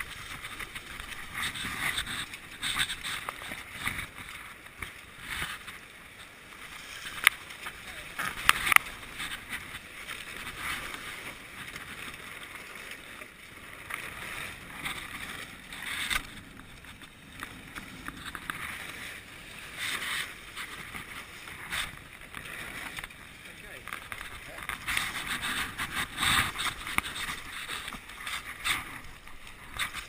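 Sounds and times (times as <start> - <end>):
water rushing along hull: 0.0 - 30.0.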